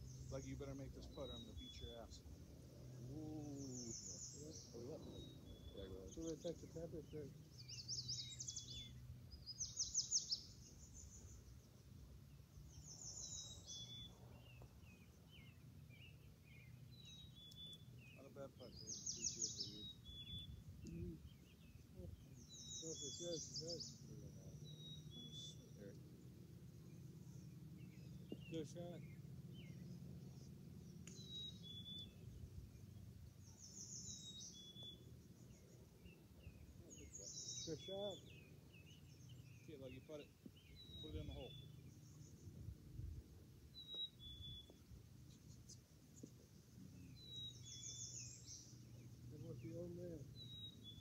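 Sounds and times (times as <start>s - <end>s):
birds chirping and whistling: 0.0s - 51.0s
low background noise: 0.0s - 51.0s
songbird singing: 0.0s - 51.0s.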